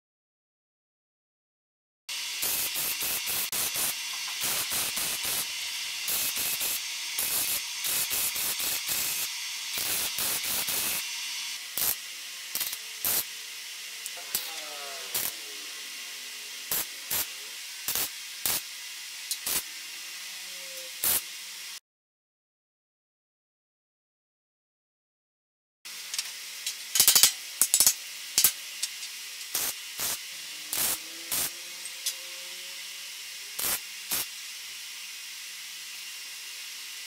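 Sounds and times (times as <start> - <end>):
steady hiss: 2.1 - 21.8, 25.9 - 37.0
welder arc crackling: 2.1 - 21.8, 25.9 - 37.0.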